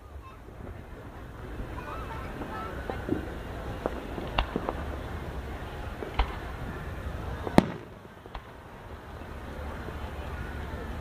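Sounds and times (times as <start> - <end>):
fireworks bangs: 0.0 - 11.0
low steady rumble: 0.0 - 11.0.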